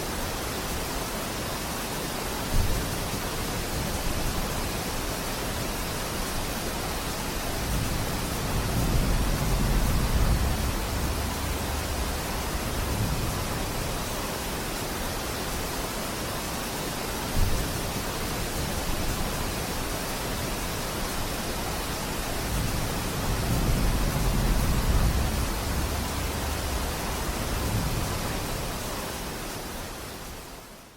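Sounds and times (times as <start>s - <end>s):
rain falling in a forest: 0.0s - 30.9s.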